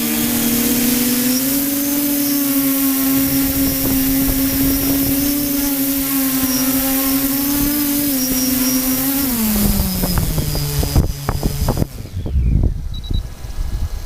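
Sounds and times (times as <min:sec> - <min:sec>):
model aircraft motor: 0:00.0 - 0:14.0
wind buffeting microphone: 0:00.0 - 0:14.0.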